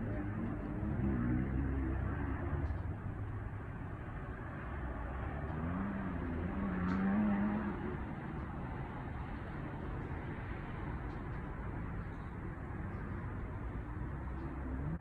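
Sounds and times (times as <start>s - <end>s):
distant dirt bike engines: 0.0s - 15.0s.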